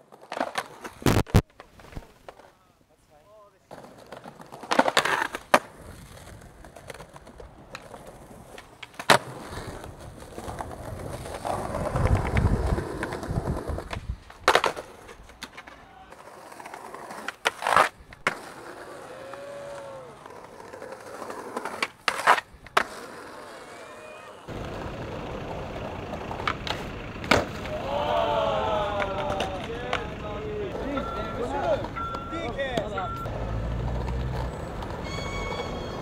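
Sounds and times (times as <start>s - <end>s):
skateboard wheels rolling: 0.0s - 2.6s, 3.6s - 36.0s
skateboard clacks: 3.7s - 28.0s, 28.8s - 33.3s.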